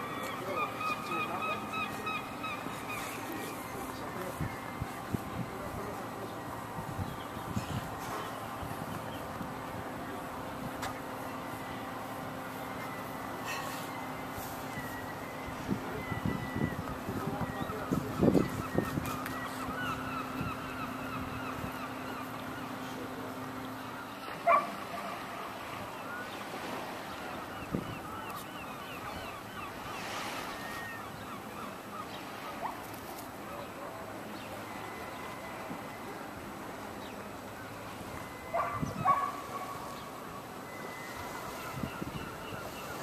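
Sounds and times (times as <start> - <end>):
gulls calling: 0.0 - 43.0.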